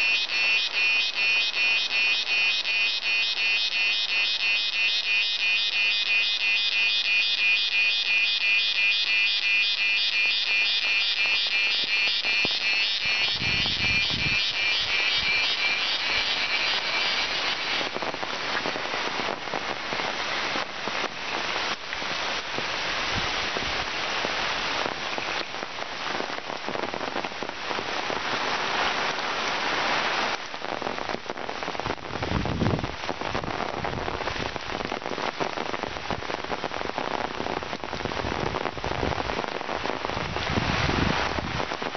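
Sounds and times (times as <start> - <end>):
rain on leaves: 0.0 - 41.9.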